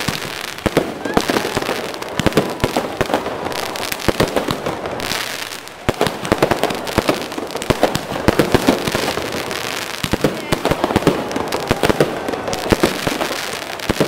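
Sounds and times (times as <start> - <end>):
fireworks crackle: 0.0 - 14.0
fireworks popping and cracking: 0.0 - 14.0.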